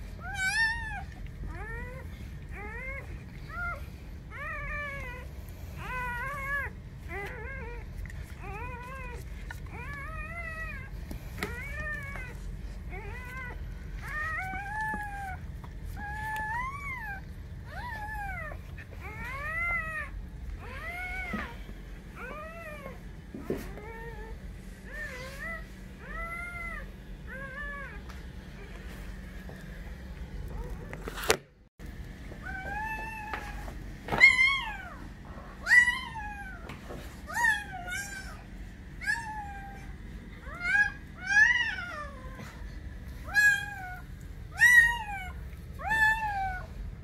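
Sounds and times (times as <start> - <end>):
puppy crying: 0.0 - 28.8, 32.4 - 46.8.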